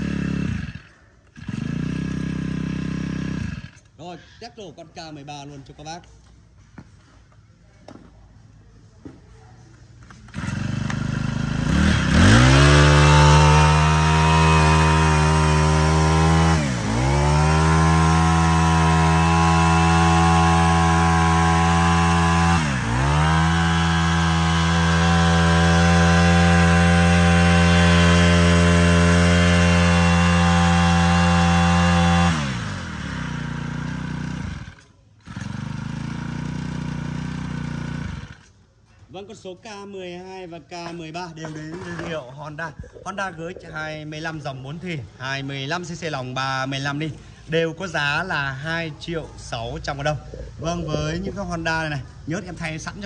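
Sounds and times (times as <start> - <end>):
brush cutter engine revving: 0.0 - 4.0, 10.0 - 38.6, 41.4 - 44.4, 45.9 - 53.0.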